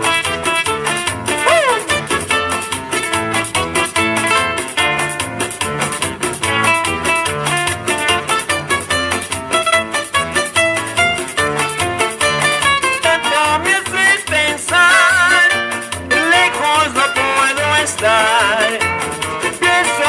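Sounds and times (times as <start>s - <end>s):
plucked guitar melody: 0.0s - 20.0s.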